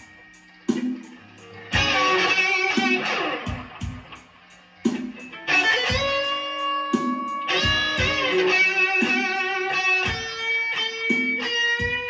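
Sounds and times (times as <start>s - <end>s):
electric guitar blues lead: 0.0s - 12.0s
steady drum beats: 0.0s - 12.0s.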